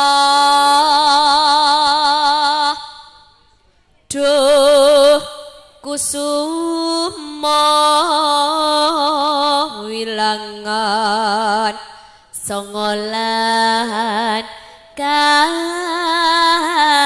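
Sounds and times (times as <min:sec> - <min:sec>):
woman singing with vibrato: 0:00.0 - 0:03.4, 0:04.1 - 0:17.0.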